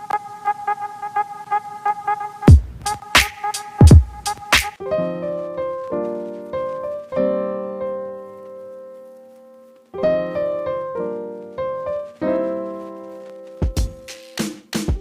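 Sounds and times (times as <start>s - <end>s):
piano-like keyboard chords: 0.0s - 14.3s.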